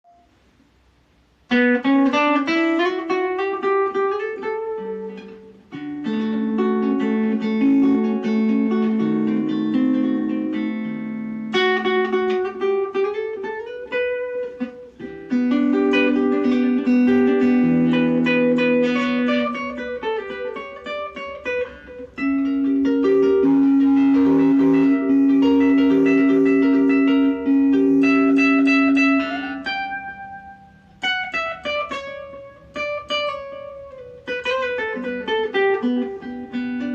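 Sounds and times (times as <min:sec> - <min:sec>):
nylon-string guitar melody: 0:01.4 - 0:36.9.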